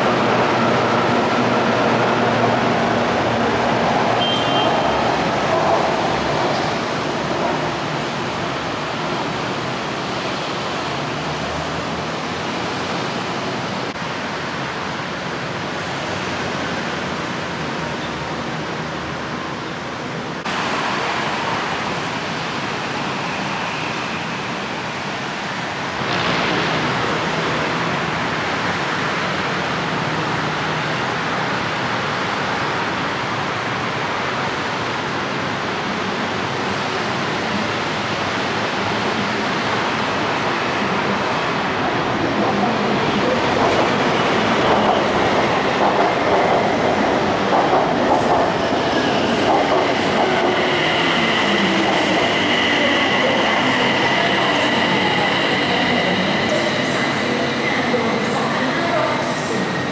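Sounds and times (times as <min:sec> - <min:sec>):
steady rushing background noise: 0:00.0 - 0:59.9
train running: 0:00.0 - 0:59.9.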